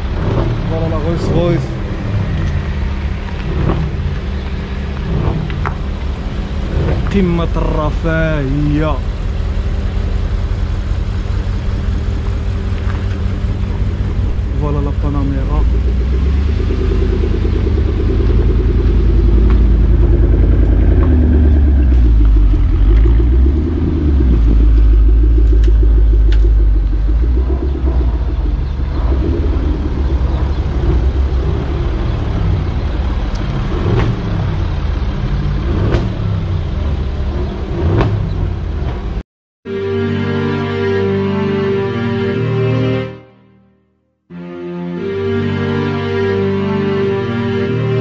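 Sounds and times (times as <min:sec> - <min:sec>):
car engine and exhaust rumble: 0:00.0 - 0:39.2
several car engines running: 0:00.0 - 0:39.2.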